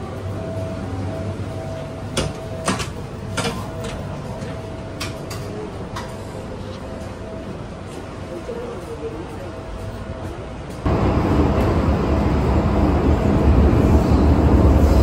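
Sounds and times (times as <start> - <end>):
low hum in subway car: 0.0 - 15.0.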